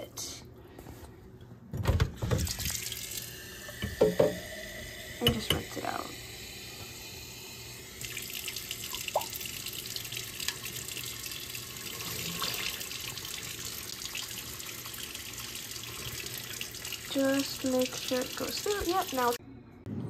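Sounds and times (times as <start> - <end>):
faucet running into sink: 2.2 - 19.4.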